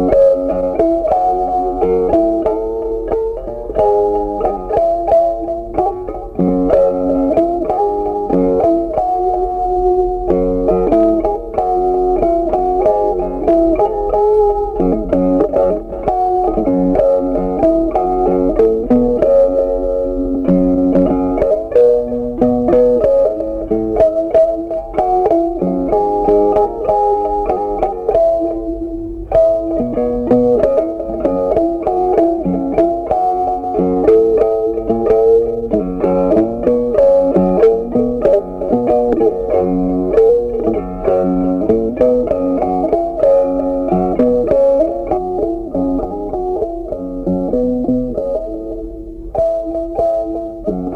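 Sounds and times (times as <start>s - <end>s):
instrumental background music: 0.0s - 50.9s.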